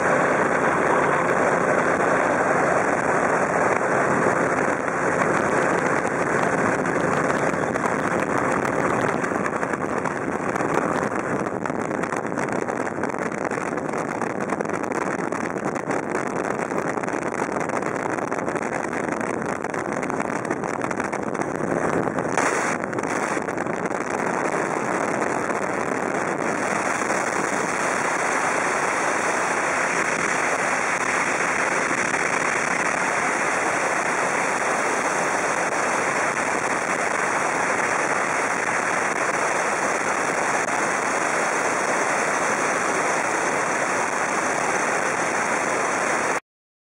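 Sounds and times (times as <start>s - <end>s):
aircraft engine: 0.0s - 46.4s
wind rushing: 0.0s - 46.4s.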